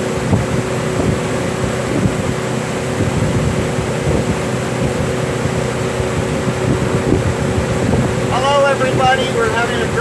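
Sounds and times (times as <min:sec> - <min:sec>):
boat motor humming: 0:00.0 - 0:10.0
wind on microphone: 0:00.0 - 0:10.0.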